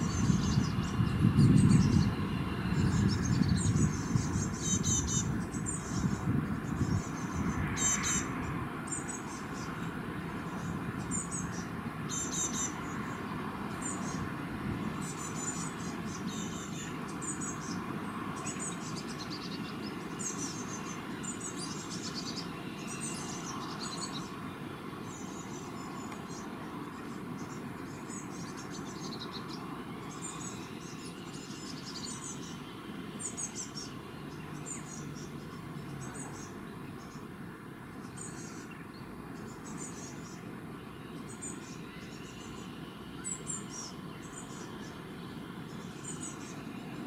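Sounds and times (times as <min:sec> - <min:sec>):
low traffic rumble: 0:00.0 - 0:47.0
small birds chirping: 0:00.0 - 0:47.0.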